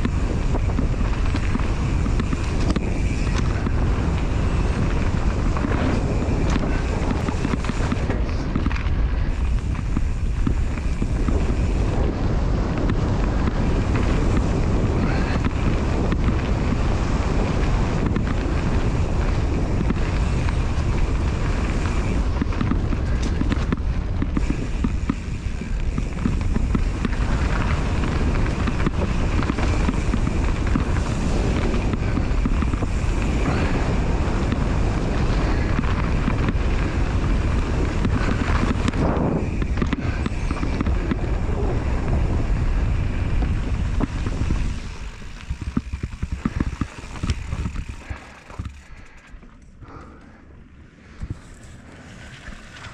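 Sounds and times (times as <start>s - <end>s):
wind buffeting microphone: 0.0s - 49.2s
bike rattles and knocks: 0.0s - 52.9s
bike tyres rolling on dirt: 0.0s - 52.9s.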